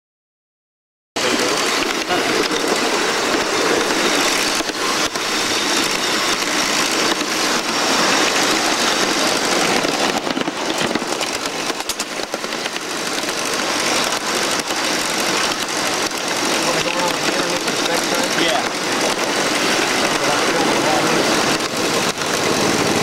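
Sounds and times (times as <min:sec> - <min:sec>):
steam locomotive running on track: 0:01.2 - 0:23.0.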